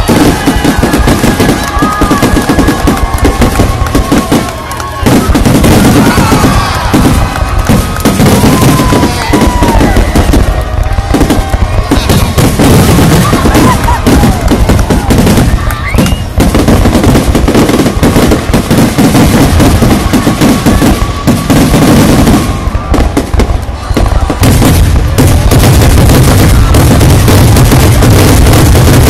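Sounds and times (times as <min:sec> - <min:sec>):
fireworks launching and bursting: 0:00.0 - 0:29.0.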